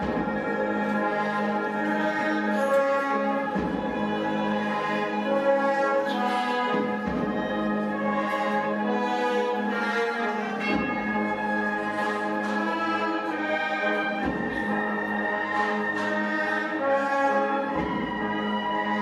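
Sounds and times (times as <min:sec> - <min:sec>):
brass band playing a march: 0:00.0 - 0:19.0.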